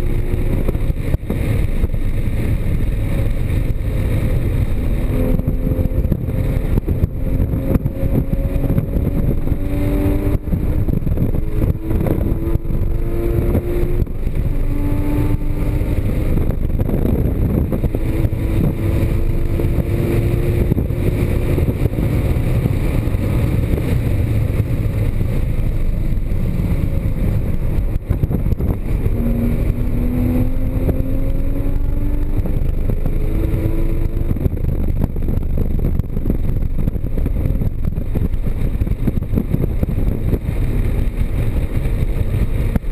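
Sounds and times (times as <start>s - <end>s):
car engine accelerating: 0.0s - 42.9s
wind and road noise: 0.0s - 42.9s.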